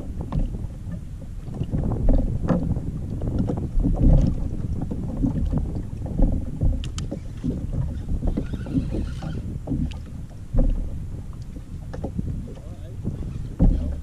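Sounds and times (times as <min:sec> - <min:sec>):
water lapping against plastic hull: 0:00.0 - 0:14.0
wind buffeting microphone: 0:00.0 - 0:14.0.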